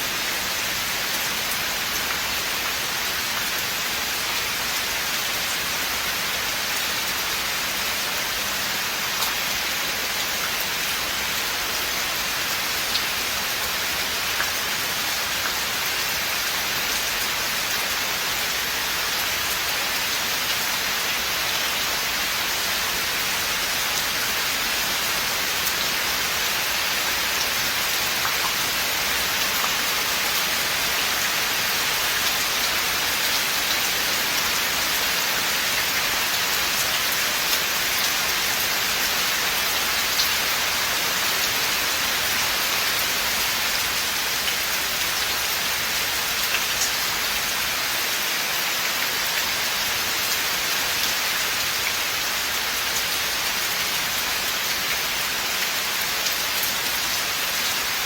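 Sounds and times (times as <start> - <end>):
rain on leaves and ground: 0.0 - 58.0.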